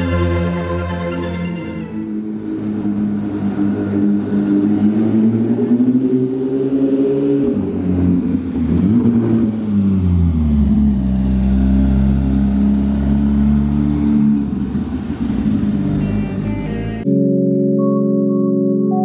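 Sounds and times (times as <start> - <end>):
car engine revving: 1.8 - 17.0.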